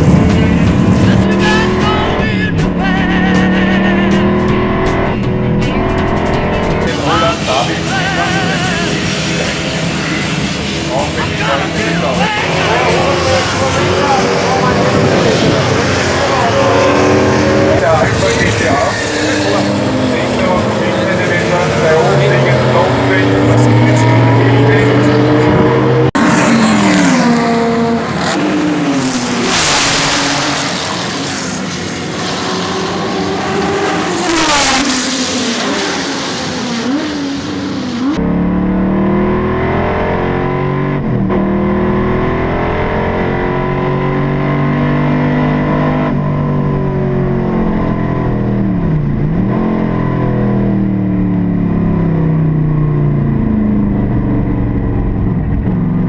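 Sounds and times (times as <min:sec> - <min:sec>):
racing car engine revving: 0:00.0 - 0:56.0
racing cars passing at speed: 0:00.0 - 0:56.0.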